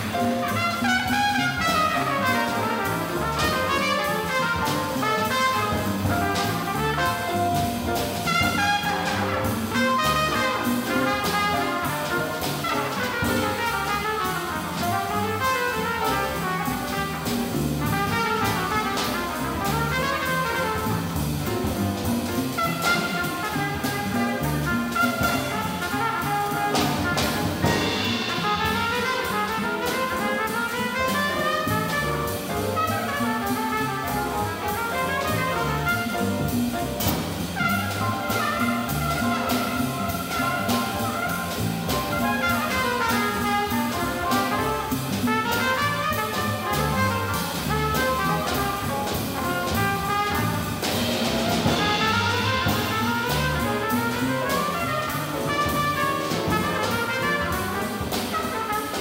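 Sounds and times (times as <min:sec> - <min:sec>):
upright bass: 0:00.0 - 0:30.1, 0:30.8 - 0:59.0
drum kit with cymbals: 0:00.0 - 0:59.0
grand piano: 0:00.0 - 0:59.0
trumpet melodic runs: 0:00.5 - 0:07.3, 0:08.2 - 0:17.2, 0:17.8 - 0:21.1, 0:22.6 - 0:36.6, 0:37.6 - 0:59.0.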